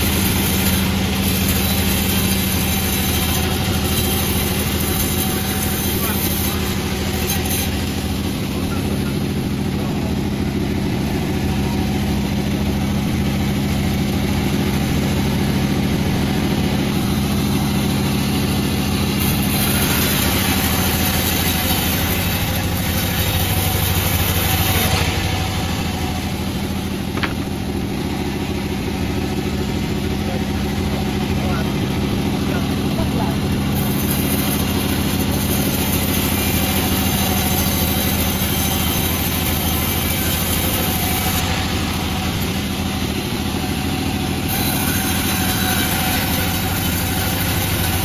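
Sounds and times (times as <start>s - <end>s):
saw cutting hiss: 0.0s - 48.0s
wood-sawing machine engine running: 0.0s - 48.0s.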